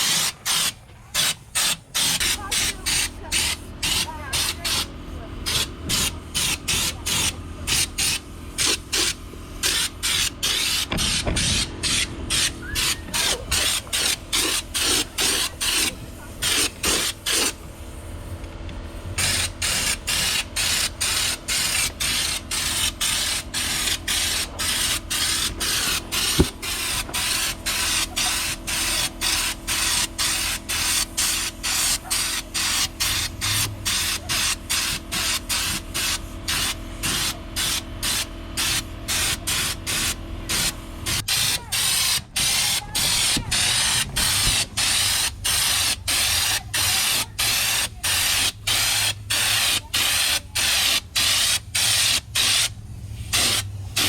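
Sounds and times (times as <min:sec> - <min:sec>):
spray gun spraying in bursts: 0:00.0 - 0:54.0.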